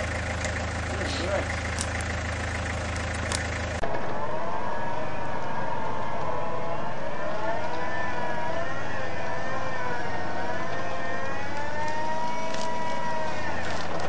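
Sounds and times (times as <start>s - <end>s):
diesel engine running: 0.0s - 14.0s
electric winch whining: 0.0s - 14.0s.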